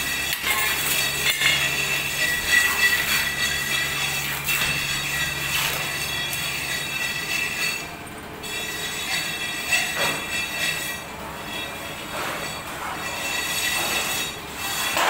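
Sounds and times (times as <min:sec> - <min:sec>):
high-pitched metallic squeal: 0:00.0 - 0:15.0.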